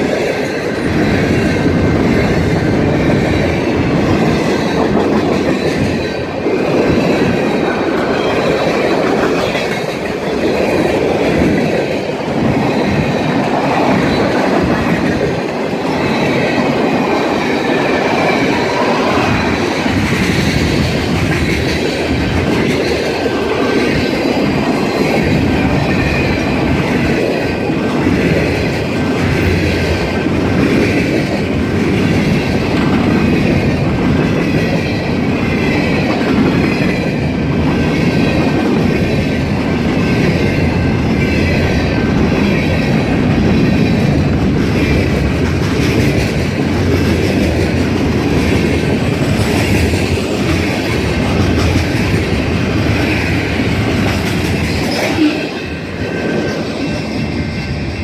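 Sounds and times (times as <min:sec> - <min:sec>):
rattle of train cars: 0:00.0 - 0:58.0
train wheels rumbling on rail: 0:00.0 - 0:58.0.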